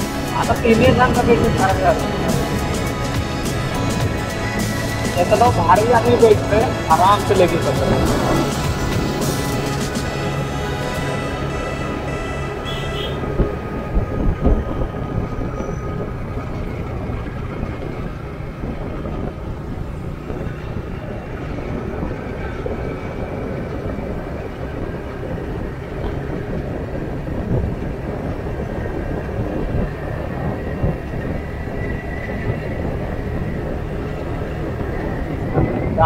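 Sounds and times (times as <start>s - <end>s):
motorcycle engine cruising: 0.0s - 36.0s
wind rushing over microphone: 0.0s - 36.0s.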